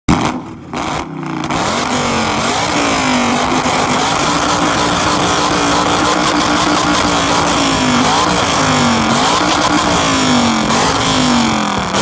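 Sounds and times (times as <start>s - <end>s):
loud engine running: 0.1s - 12.0s.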